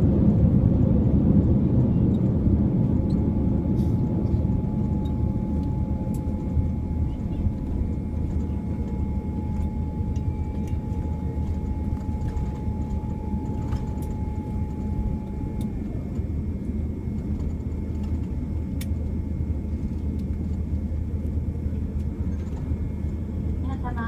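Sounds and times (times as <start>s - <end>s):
airplane cabin rumble: 0.0s - 24.0s
faint whine: 0.0s - 24.0s.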